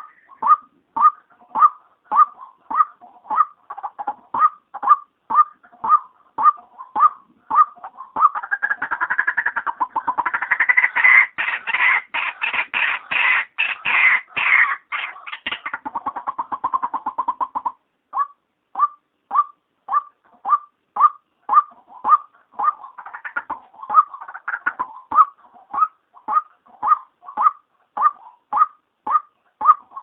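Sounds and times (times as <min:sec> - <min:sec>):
waterhen harsh chattering call: 0:00.0 - 0:30.0.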